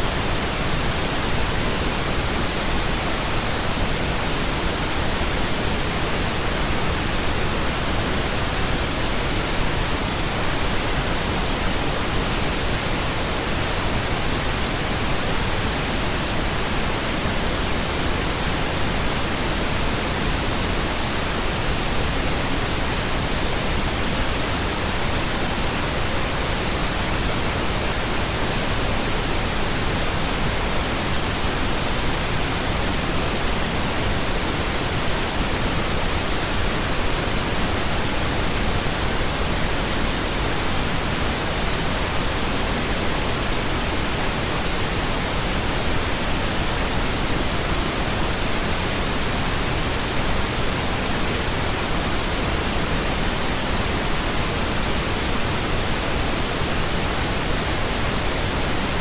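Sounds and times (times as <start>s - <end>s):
steady pink noise hiss: 0.0s - 59.0s.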